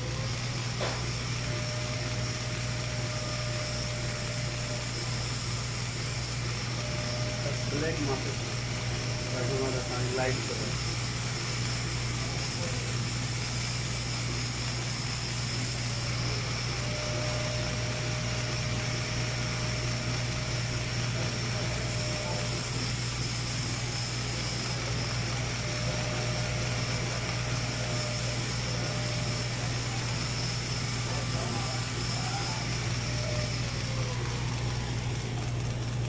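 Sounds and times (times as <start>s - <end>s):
machine hum with high whine: 0.0s - 36.0s.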